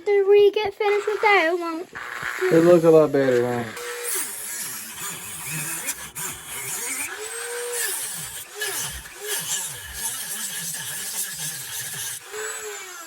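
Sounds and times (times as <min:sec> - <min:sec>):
rotary tool cutting wood: 0:00.8 - 0:13.0.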